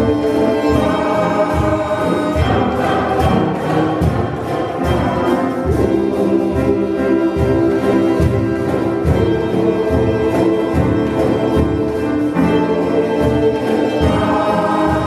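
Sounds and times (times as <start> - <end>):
choir singing: 0.0 - 15.0
piano: 0.0 - 15.0.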